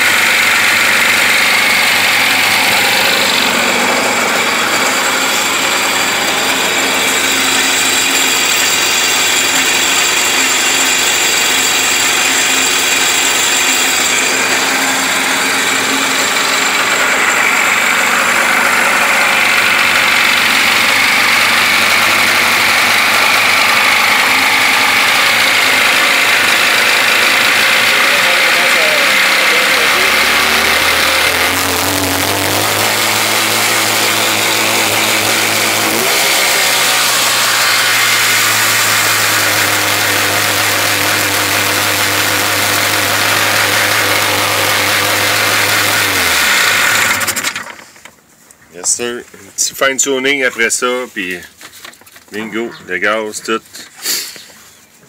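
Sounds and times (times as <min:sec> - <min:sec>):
watercraft engine running: 0:00.0 - 0:47.8.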